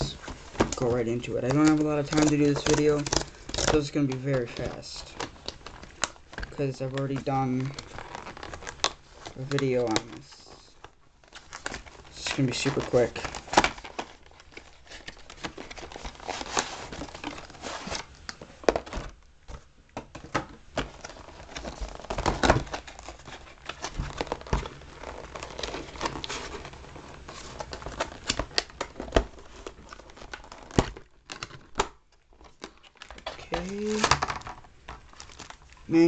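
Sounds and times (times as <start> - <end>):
packaging crinkling and rustling: 0.0 - 36.0.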